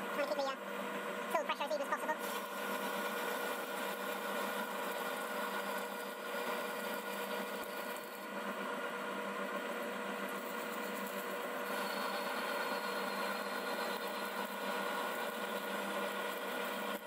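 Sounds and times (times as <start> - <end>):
metal lathe humming: 2.2 - 17.0.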